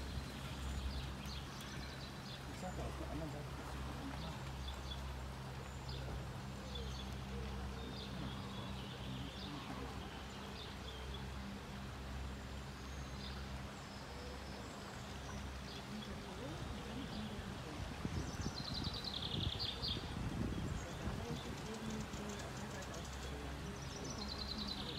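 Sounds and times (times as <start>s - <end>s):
rushing river water: 0.0s - 24.9s
small birds chirping: 0.0s - 24.9s.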